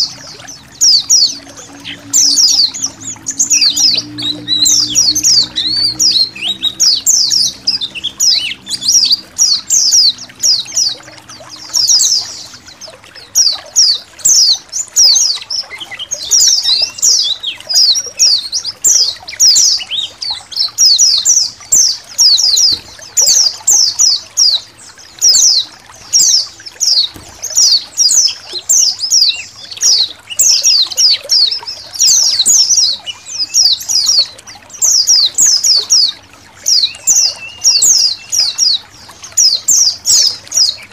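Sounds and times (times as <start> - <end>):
birds chirping and twittering: 0.0 - 40.9
faintly trickling water: 0.0 - 40.9.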